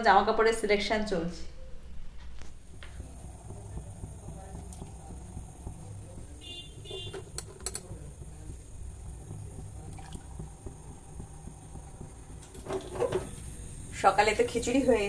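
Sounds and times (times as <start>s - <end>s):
low steady hum: 0.0s - 15.0s
faint water sounds in a pot: 2.5s - 15.0s.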